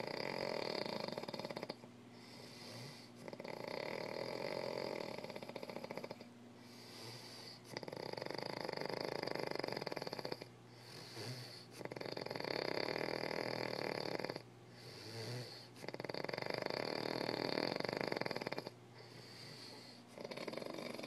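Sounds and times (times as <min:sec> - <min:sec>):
quiet breaths: 0:00.0 - 0:21.0
rough snoring: 0:00.0 - 0:21.0.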